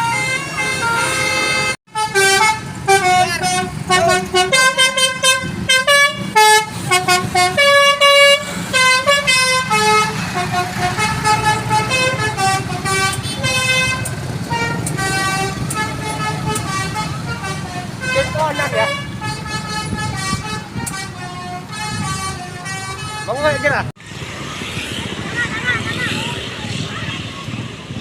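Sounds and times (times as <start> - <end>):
musical bus horn tunes: 0.0 - 23.9.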